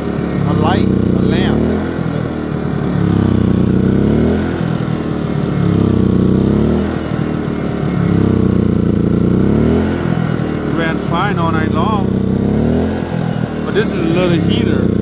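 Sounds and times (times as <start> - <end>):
generator engine surging: 0.0 - 15.0.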